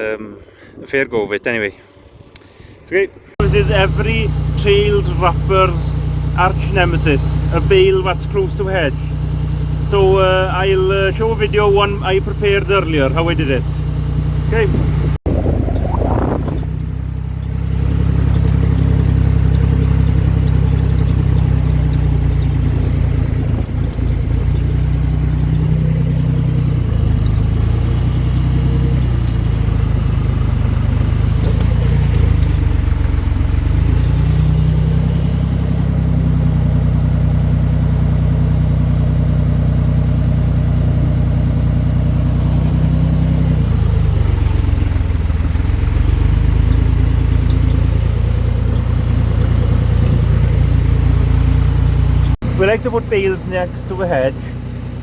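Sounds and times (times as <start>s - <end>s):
tractor engine running: 3.2s - 55.0s.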